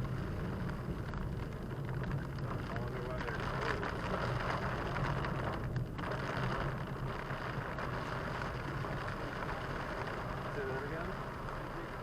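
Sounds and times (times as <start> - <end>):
rain hiss: 0.0 - 12.0
road and engine hum: 0.0 - 12.0.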